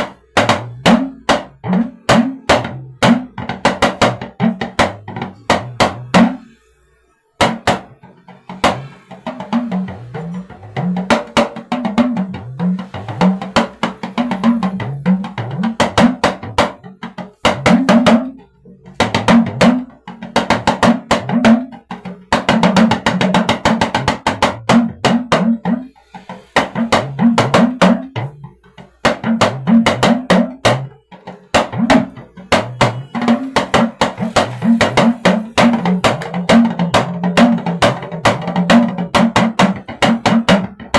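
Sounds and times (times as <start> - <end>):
talking drum played in rhythmic phrases: 0.0 - 6.6, 7.4 - 40.9.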